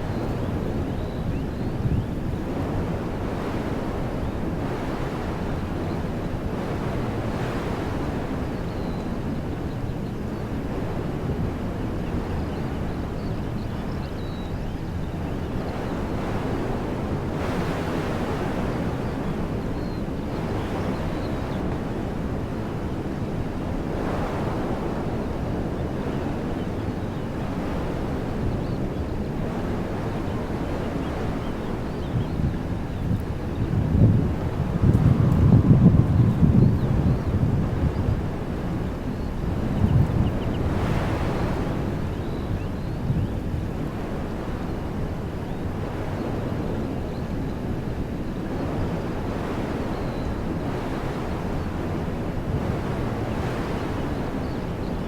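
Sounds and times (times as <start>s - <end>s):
wind blowing through trees: 0.0s - 55.0s
wind buffeting microphone: 0.0s - 55.0s.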